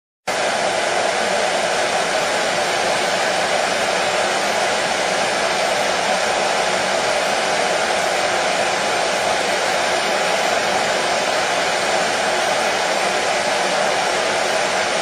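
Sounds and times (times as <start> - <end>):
hair dryer running: 0.3 - 15.0.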